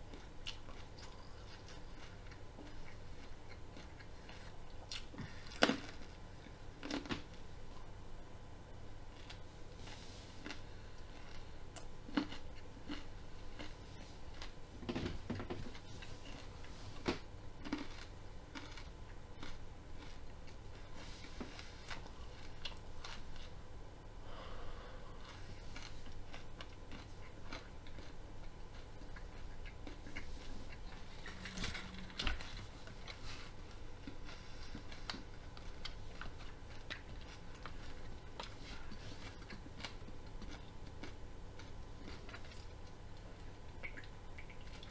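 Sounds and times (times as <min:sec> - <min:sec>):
person chewing raw broccoli: 0:00.0 - 0:07.4, 0:09.1 - 0:23.6, 0:24.3 - 0:44.9.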